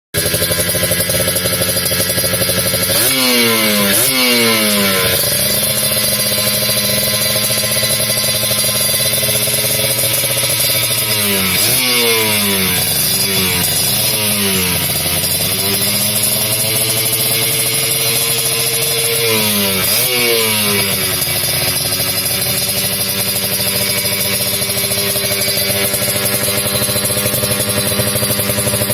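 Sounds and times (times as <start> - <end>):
motorcycle engine idling: 0.2 - 28.9
motorcycle throttle revs: 0.2 - 28.9.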